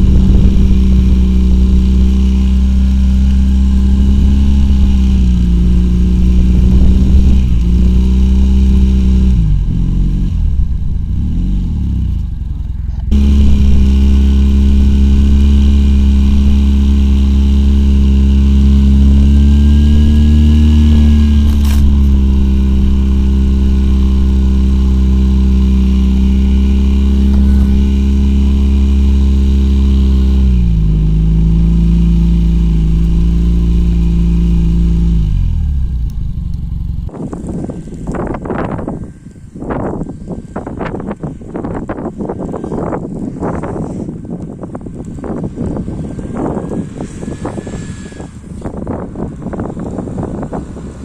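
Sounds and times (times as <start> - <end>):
engine running at high revs: 0.0 - 51.0.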